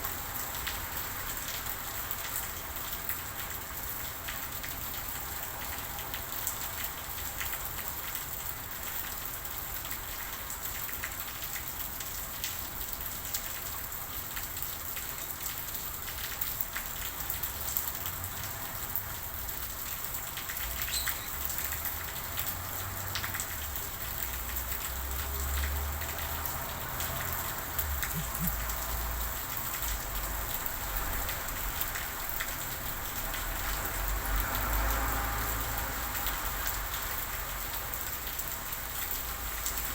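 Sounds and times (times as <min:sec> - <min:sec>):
steady rain with drop hits: 0:00.0 - 0:39.9.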